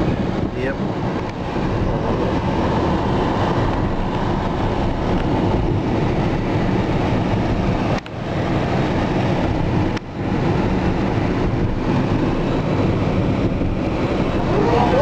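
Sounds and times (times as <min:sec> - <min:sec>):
car road noise from inside: 0:00.0 - 0:15.0.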